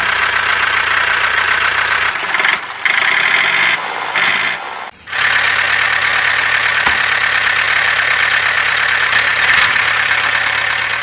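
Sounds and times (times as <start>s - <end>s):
model tractor whirring hum: 0.0s - 11.0s.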